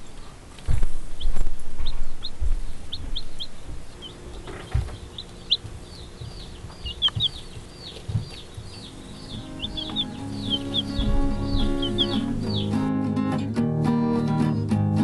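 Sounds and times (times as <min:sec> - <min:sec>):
chicks peeping: 0:00.0 - 0:13.4
low thumps: 0:00.6 - 0:13.3.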